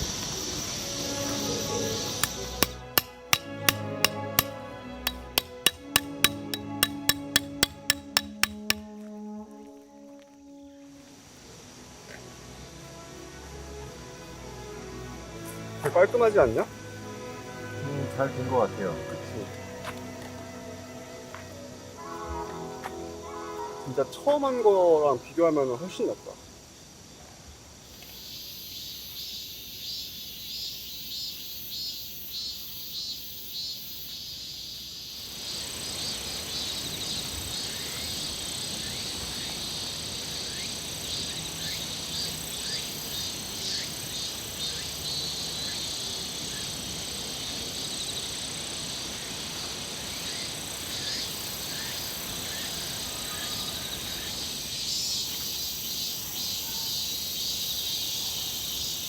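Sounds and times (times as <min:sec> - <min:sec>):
insects chirping: 0:00.0 - 0:15.4, 0:25.1 - 0:59.0
background hiss: 0:00.0 - 0:59.0.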